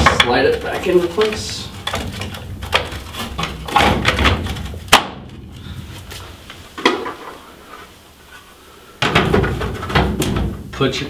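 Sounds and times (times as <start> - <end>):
filter rustling and knocking: 0.0 - 7.4, 9.0 - 10.7.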